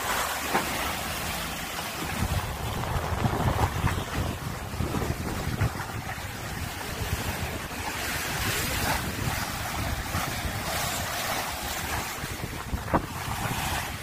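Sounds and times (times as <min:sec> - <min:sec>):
water rushing along a hull: 0:00.0 - 0:14.0
wind buffeting microphone: 0:00.8 - 0:14.0.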